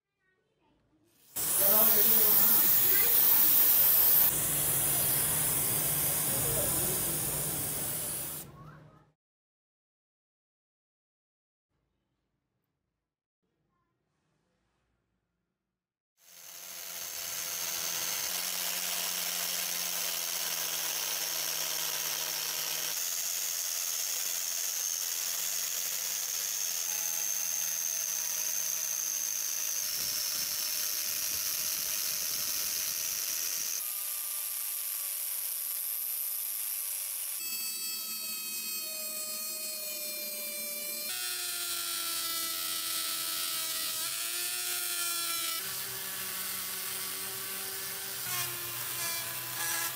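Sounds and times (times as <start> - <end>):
rotary tool grinding metal: 1.2 - 8.4, 16.2 - 49.9.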